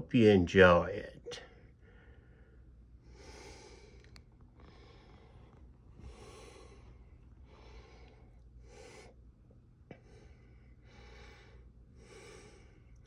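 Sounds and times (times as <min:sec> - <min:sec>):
soft breathing: 0:01.4 - 0:13.0.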